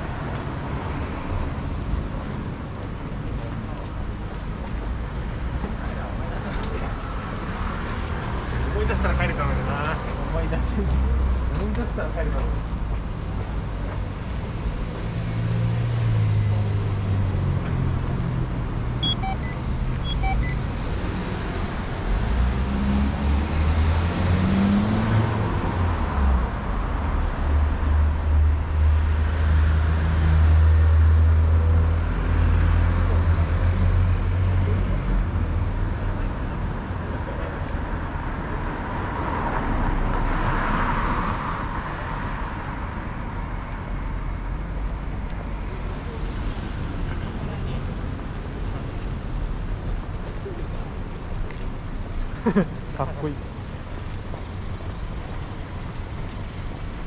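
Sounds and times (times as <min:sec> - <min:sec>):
car engines passing: 0:00.0 - 0:57.0.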